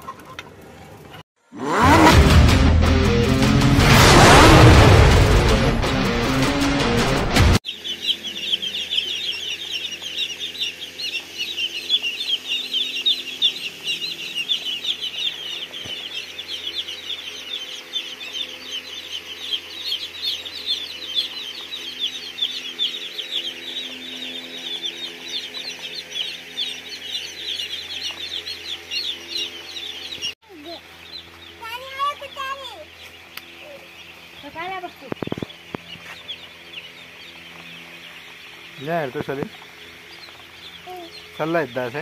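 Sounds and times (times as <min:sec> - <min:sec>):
birds chirping: 0:04.2 - 0:42.0.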